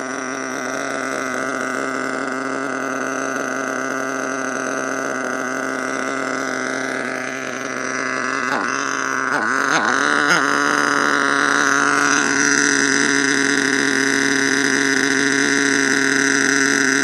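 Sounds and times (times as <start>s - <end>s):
small model engine idling: 0.0s - 17.0s.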